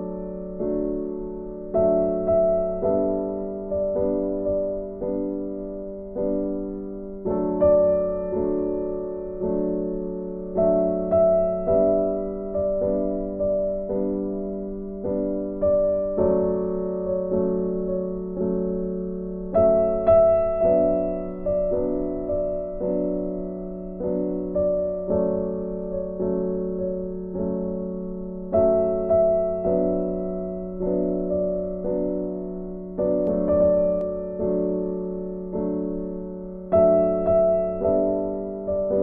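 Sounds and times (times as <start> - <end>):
soft piano music: 0.0 - 39.0.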